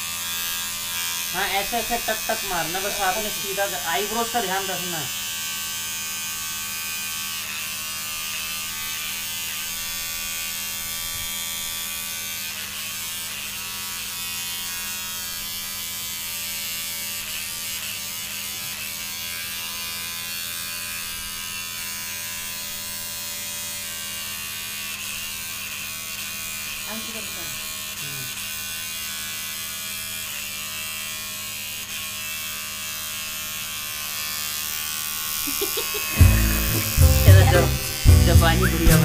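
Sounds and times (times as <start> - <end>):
electric hair clipper buzzing: 0.0 - 39.0.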